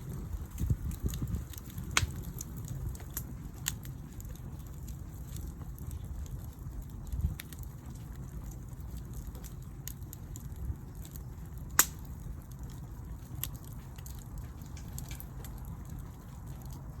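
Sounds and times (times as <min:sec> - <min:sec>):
campfire crackling: 0:00.0 - 0:17.0
low steady rumble: 0:00.0 - 0:17.0.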